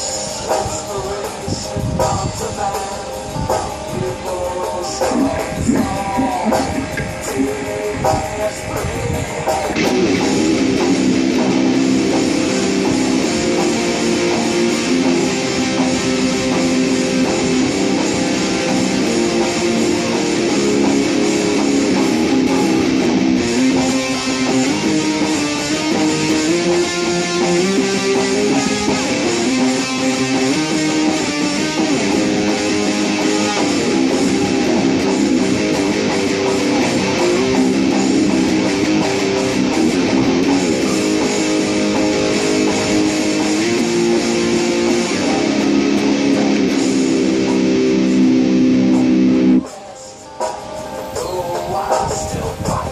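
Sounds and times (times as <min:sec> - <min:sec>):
electric guitar melody: 0:00.0 - 0:52.9.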